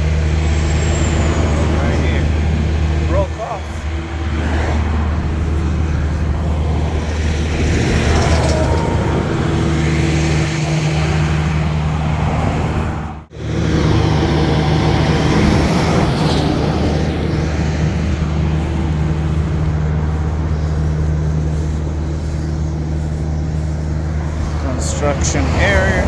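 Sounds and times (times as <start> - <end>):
highway traffic passing: 0.0 - 26.0
low engine hum: 0.0 - 26.0.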